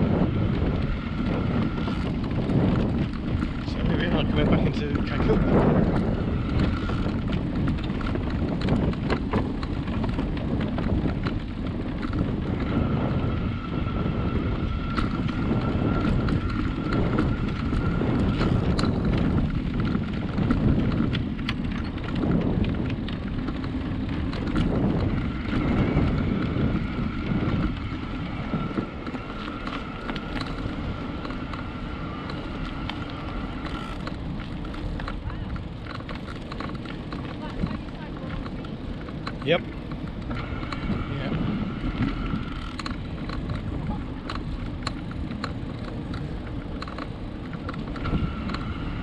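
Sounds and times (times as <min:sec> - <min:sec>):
bicycle tyres clicking over planks: 0:00.0 - 0:49.0
wind rumbling on microphone: 0:00.0 - 0:49.0.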